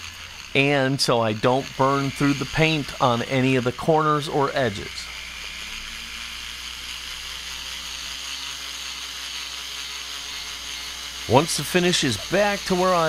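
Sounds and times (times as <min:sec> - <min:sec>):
rotary tool buffing plastic: 0:00.0 - 0:13.0.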